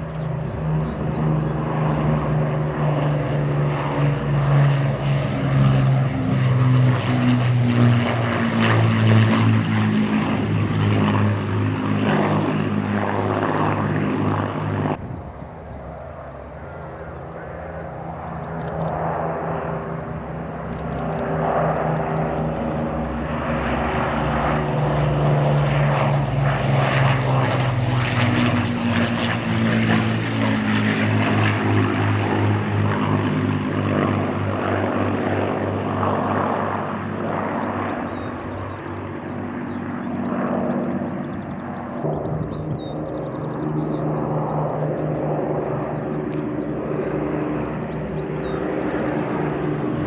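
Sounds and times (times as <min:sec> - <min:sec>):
propeller aircraft engines droning: 0:00.0 - 0:50.0.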